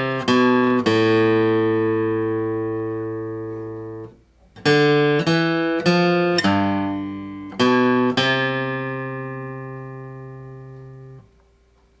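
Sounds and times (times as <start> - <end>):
acoustic guitar melody: 0.0 - 12.0.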